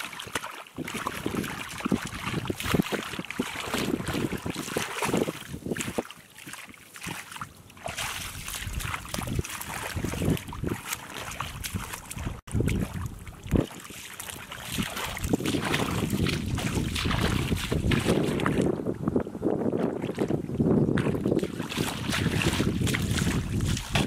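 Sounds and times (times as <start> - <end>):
splashing through muddy water: 0.0 - 24.0.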